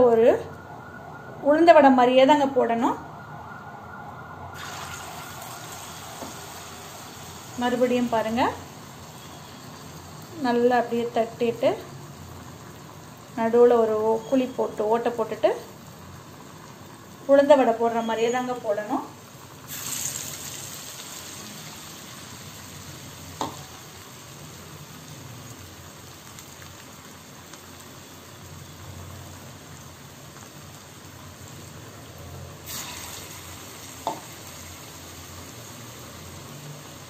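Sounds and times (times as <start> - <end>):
oil sizzling while deep-frying: 0.0 - 37.0.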